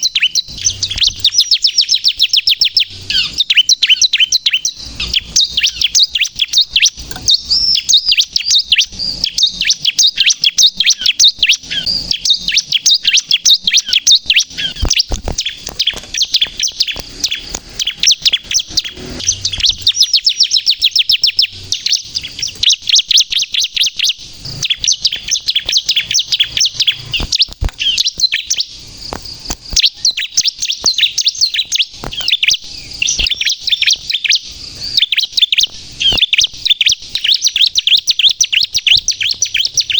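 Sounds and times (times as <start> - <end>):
bird rapid high chirping song: 0.0 - 39.9.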